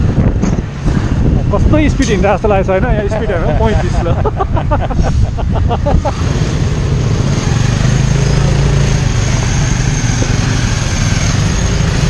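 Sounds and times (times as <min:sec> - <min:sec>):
road noise: 0:00.0 - 0:12.0
wind noise: 0:00.0 - 0:12.0.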